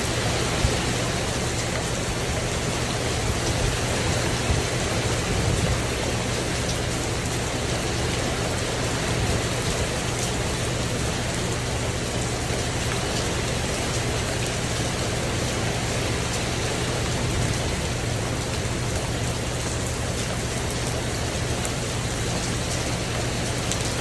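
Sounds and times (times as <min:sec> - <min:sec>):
rain on a tin roof: 0:00.0 - 0:24.0.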